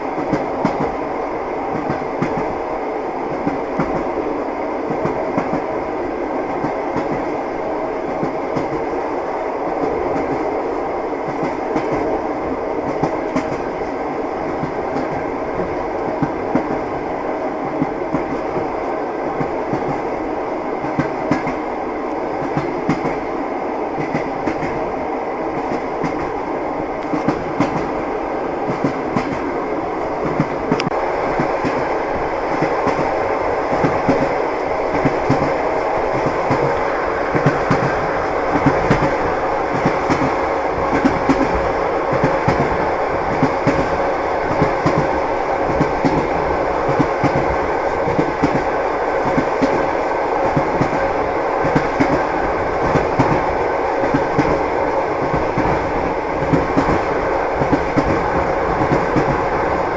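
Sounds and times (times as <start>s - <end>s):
train wheels clacking on rails: 0.0s - 59.9s.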